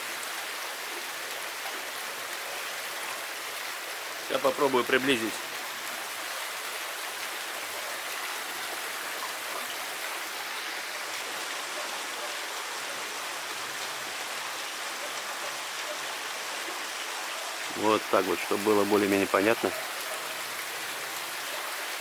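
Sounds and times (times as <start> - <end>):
water running into pond: 0.0 - 22.0.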